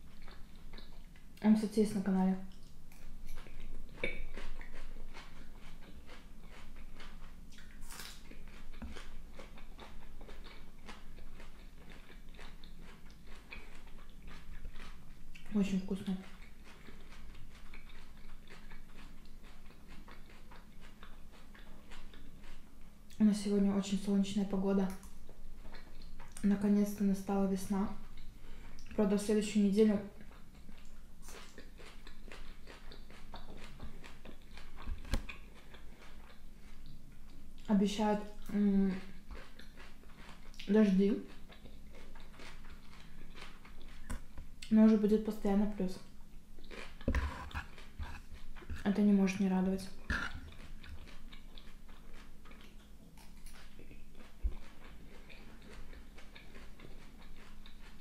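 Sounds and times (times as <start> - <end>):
crunchy chewing: 0.0 - 1.4, 2.4 - 23.2, 29.9 - 58.0.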